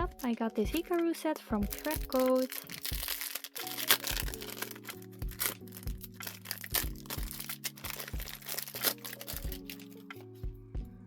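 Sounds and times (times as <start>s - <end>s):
light instrumental music with beat: 0.0s - 11.0s.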